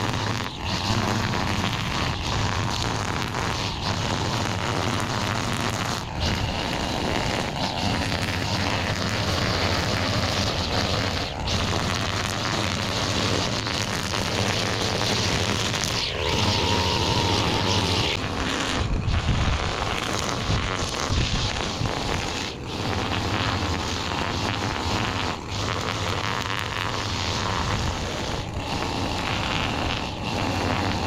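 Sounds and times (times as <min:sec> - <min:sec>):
small gas engine running: 0:00.0 - 0:31.0
thin whine: 0:00.0 - 0:31.0.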